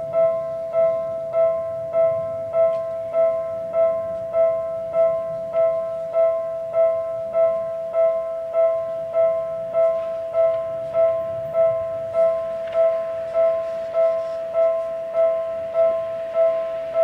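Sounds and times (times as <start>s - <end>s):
level crossing bell ringing: 0.0s - 17.0s.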